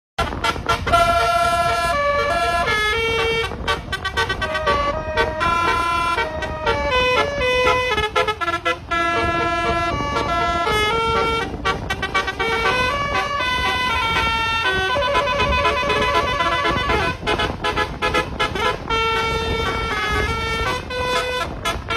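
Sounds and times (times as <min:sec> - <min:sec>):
bus horn playing melody: 0:00.2 - 0:21.9.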